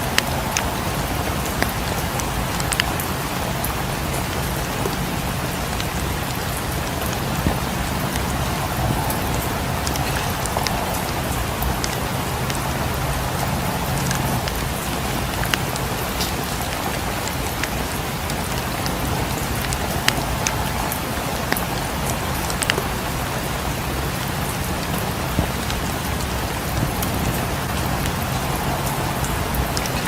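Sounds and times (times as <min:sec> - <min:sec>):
steady rain on a cabin: 0:00.0 - 0:30.0
wood fire crackling: 0:00.0 - 0:30.0.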